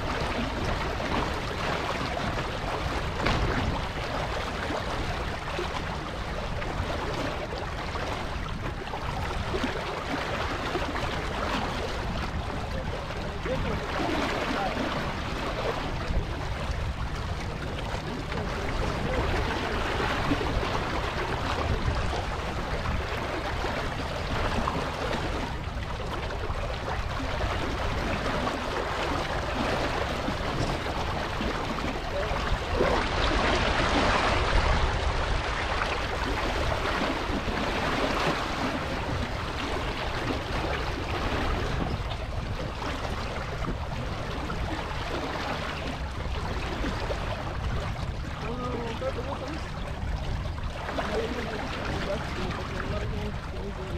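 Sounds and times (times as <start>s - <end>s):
water rushing along a hull: 0.0s - 53.9s
wind buffeting microphone: 0.0s - 53.9s.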